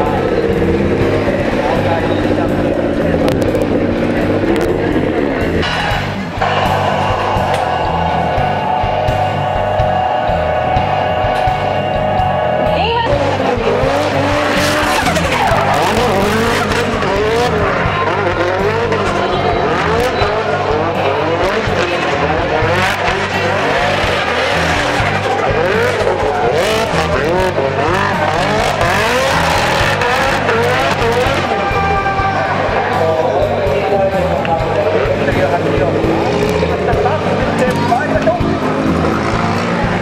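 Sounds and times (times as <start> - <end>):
tyres screeching: 0.0 - 33.1
car engine revving hard: 0.0 - 40.0.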